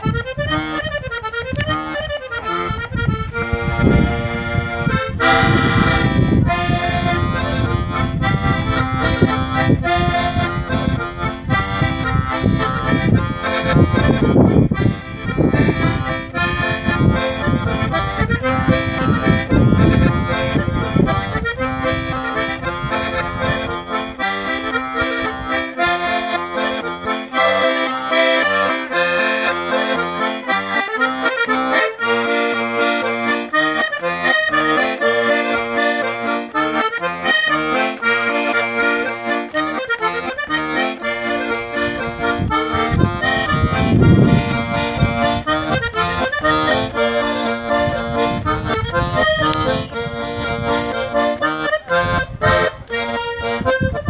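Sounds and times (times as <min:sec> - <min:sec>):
button accordion dance tune: 0:00.0 - 0:54.0.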